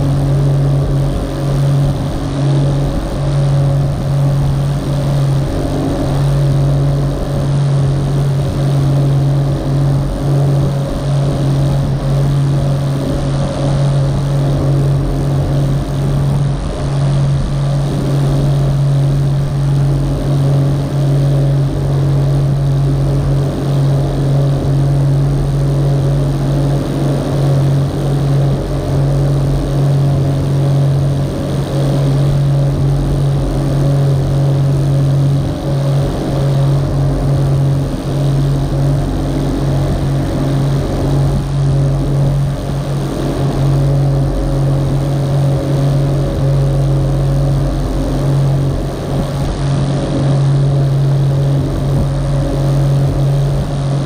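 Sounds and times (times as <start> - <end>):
boat motor humming: 0.0 - 54.0
water rushing along hull: 0.0 - 54.0.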